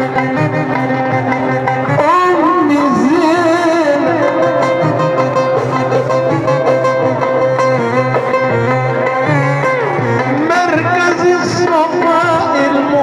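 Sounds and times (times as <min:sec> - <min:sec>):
ornamented wavering melody: 0:00.0 - 0:13.0
percussion keeping a steady beat: 0:00.0 - 0:13.0.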